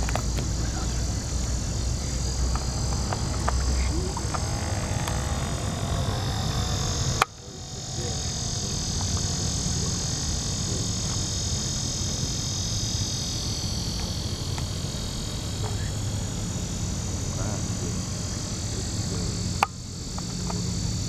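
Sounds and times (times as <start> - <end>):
frog calls: 0.0 - 21.0
insects droning: 0.0 - 21.0.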